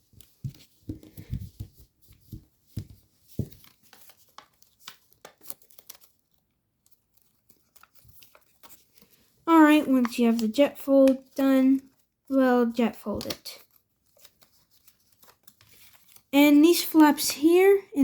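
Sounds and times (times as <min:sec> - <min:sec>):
paper folding and crinkling: 0:00.0 - 0:18.0.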